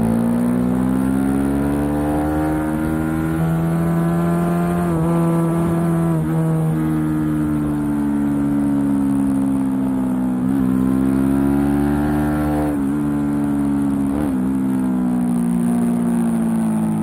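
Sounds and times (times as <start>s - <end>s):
motorcycle engine running hard: 0.0s - 17.0s.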